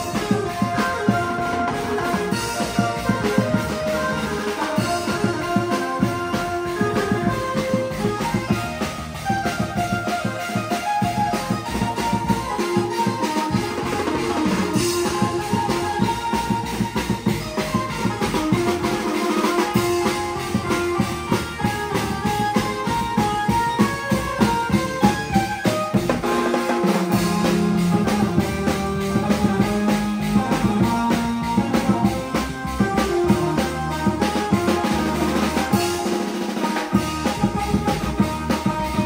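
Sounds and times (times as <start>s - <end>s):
busy drum beat: 0.0s - 39.0s
melody: 0.0s - 39.0s.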